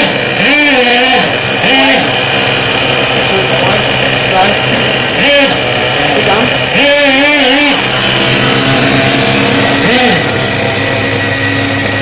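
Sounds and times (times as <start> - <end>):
model engine droning: 0.0 - 12.0.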